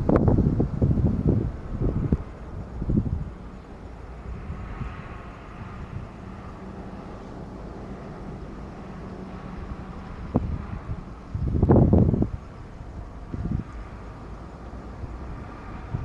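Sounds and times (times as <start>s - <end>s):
distant jet engines humming: 0.0s - 16.0s.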